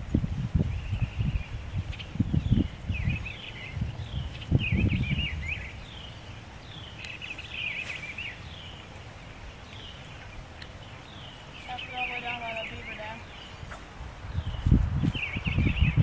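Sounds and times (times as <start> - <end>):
birds chirping: 0.6 - 16.0.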